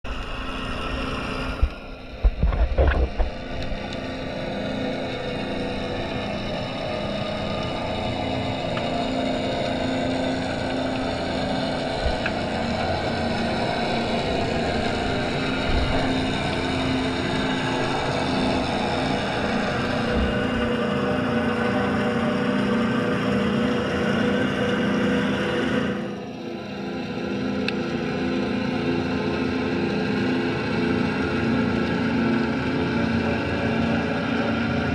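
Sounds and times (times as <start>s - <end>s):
underwater boat engine hum: 0.1s - 34.9s.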